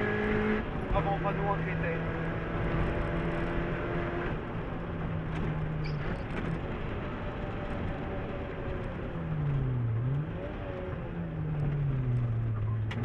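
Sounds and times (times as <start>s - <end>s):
car engine running: 0.0s - 13.0s
road and tyre noise: 0.0s - 13.0s.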